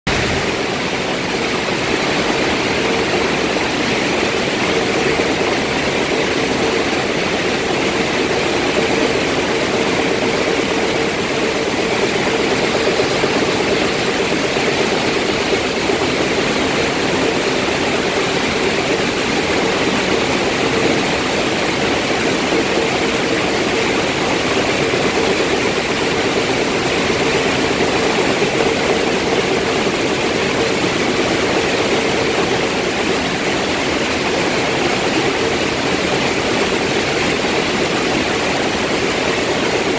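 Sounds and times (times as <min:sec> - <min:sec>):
loud machine hum: 0:00.1 - 0:39.9
rushing water: 0:00.1 - 0:39.9.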